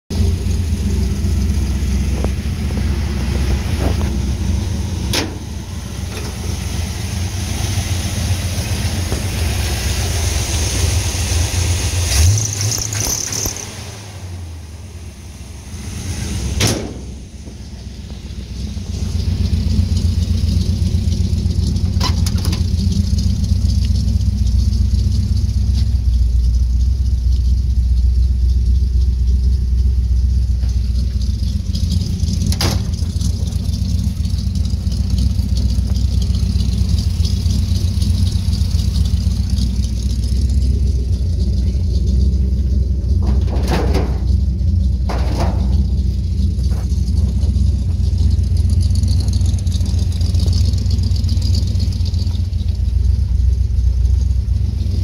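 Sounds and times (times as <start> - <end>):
vehicle engine idling: 0.1 - 55.0.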